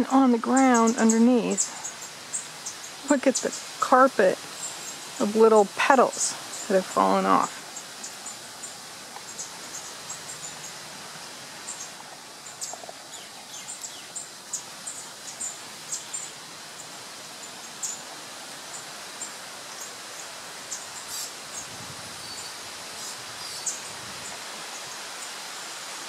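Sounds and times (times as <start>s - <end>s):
small birds chirping: 0.0s - 18.1s, 18.7s - 25.4s
constant outdoor hiss: 0.0s - 26.0s.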